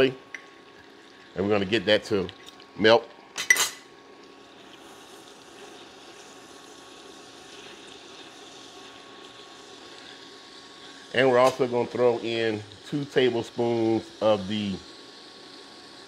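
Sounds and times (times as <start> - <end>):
cooling fan running: 0.0 - 16.0
soft sizzle in saucepan: 0.0 - 16.0.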